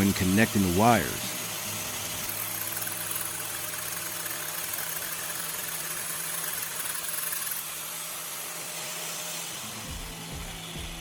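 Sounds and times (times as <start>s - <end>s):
angle grinder grinding metal: 0.0s - 11.0s.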